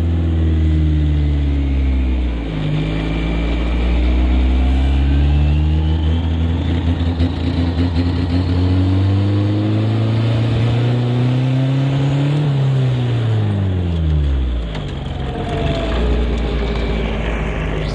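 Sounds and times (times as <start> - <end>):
car engine accelerating: 0.0 - 17.9.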